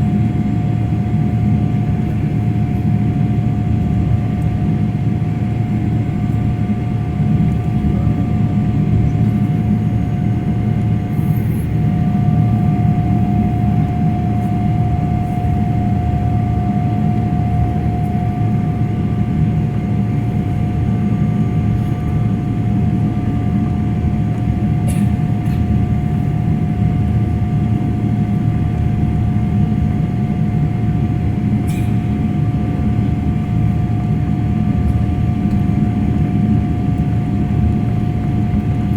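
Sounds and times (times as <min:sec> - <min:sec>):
jet engine roar in cabin: 0:00.0 - 0:38.9
thin steady whine: 0:00.0 - 0:38.9.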